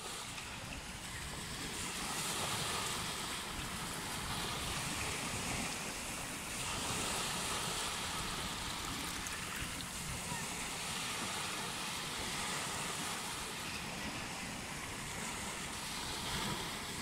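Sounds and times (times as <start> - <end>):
small waves breaking on sand: 0.0 - 17.0
wind on microphone: 0.0 - 17.0.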